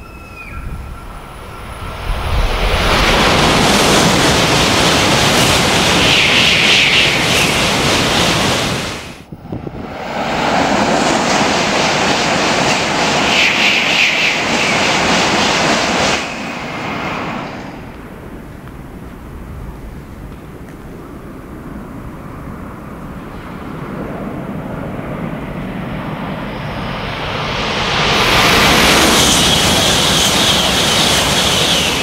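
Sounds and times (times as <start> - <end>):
high-speed train rushing past: 0.0 - 32.0.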